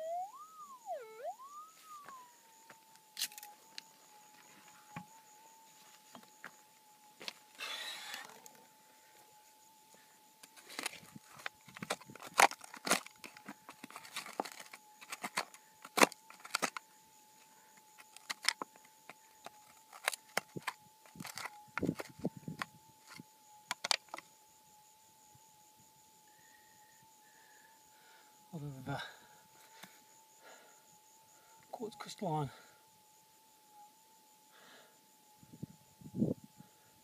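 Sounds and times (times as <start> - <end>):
faint steady high tone: 0.0 - 37.0.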